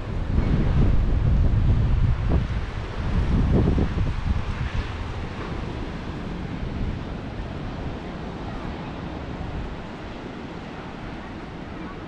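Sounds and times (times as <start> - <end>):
sea surf rushing: 0.0 - 12.0
wind rumbling on microphone: 0.0 - 12.0.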